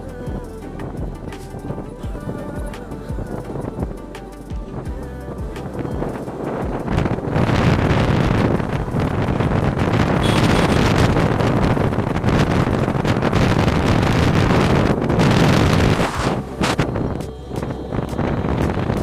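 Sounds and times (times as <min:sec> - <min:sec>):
moving vehicle rumble: 0:00.0 - 0:19.0
wind buffeting microphone: 0:00.0 - 0:19.0.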